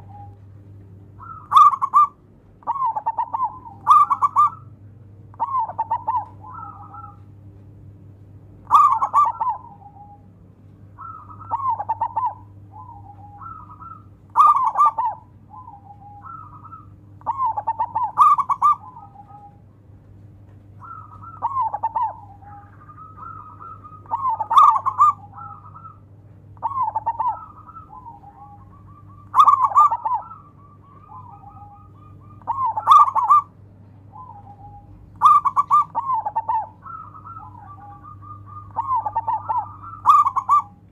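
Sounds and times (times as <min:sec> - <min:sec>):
dove cooing: 0:00.0 - 0:00.5, 0:01.1 - 0:07.4, 0:08.6 - 0:19.8, 0:20.5 - 0:40.9
faint low hum: 0:00.0 - 0:40.9.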